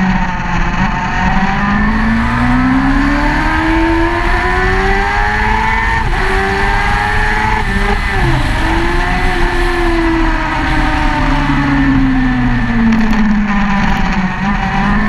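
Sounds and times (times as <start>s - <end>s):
racing motorcycle engine accelerating: 0.0s - 15.0s
wind rumble: 0.0s - 15.0s.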